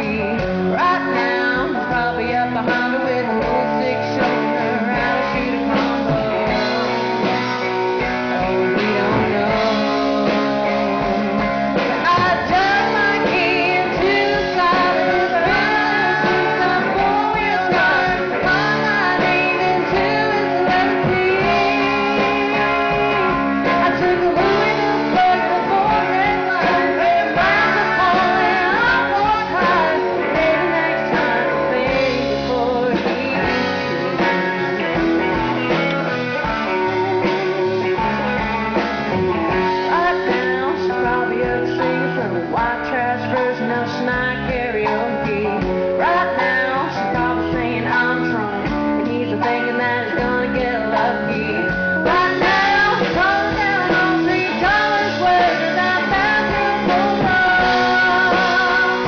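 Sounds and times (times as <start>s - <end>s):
drums: 0.0s - 59.0s
guitars: 0.0s - 59.0s
woman singing: 0.0s - 59.0s.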